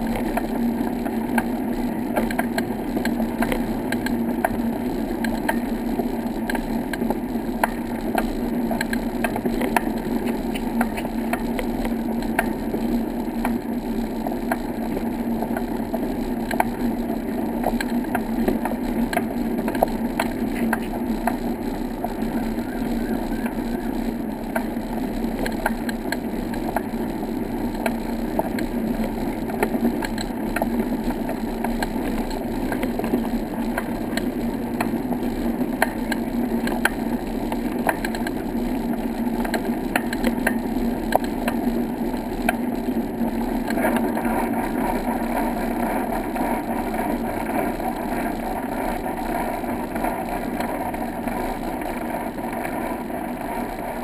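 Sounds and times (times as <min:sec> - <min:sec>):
low hum: 0:00.0 - 0:54.0
small rattles and clicks: 0:00.0 - 0:54.0.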